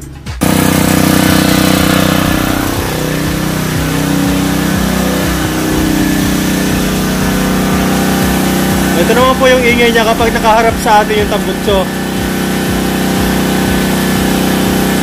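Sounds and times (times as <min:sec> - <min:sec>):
generator engine running: 0:00.4 - 0:15.0.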